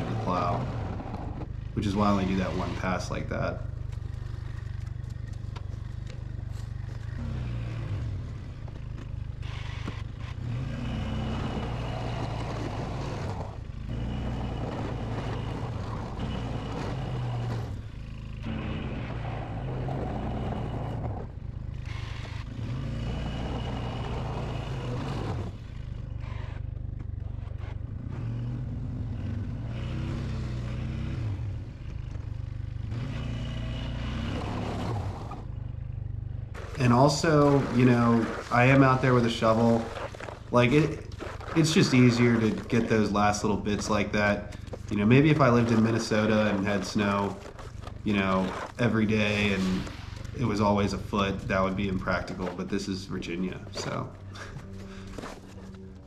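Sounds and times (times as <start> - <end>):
atv engine surging: 0.0 - 56.0
plow blade scraping snow: 0.0 - 56.0.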